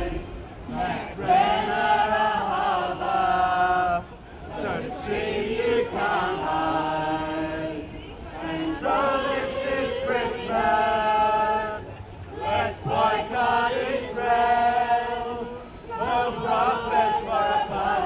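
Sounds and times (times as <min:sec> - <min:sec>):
group singing a carol: 0:00.0 - 0:18.0.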